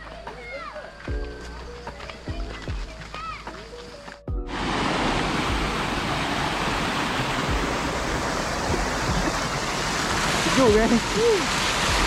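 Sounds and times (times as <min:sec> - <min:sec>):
rushing river water: 0:02.0 - 0:12.0.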